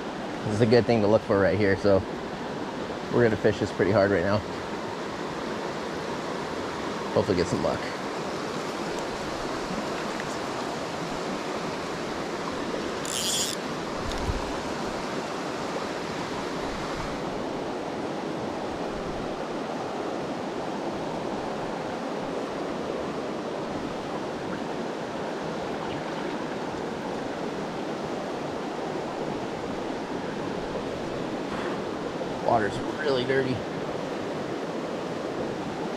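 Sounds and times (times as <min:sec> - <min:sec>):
fast-flowing river rushing: 0:02.1 - 0:35.9.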